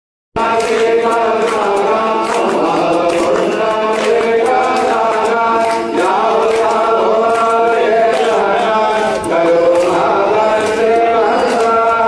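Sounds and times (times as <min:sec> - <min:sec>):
group chanting a hymn: 0:00.4 - 0:12.0.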